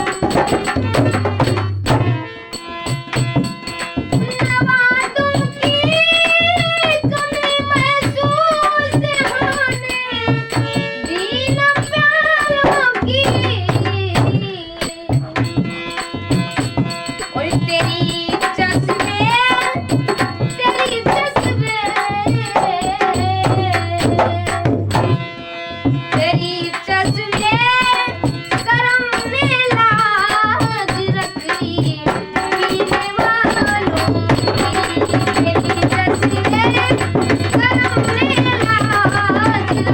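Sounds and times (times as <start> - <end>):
tabla drumming: 0.0 - 39.9.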